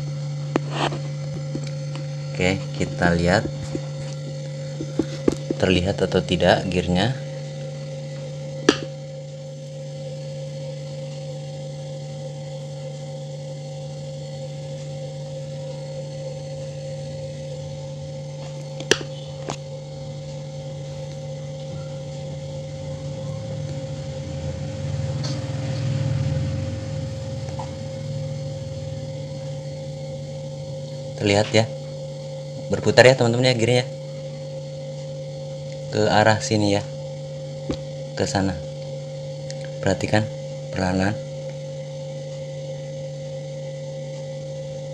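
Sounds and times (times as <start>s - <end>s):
refrigerator electrical hum: 0.0s - 44.9s.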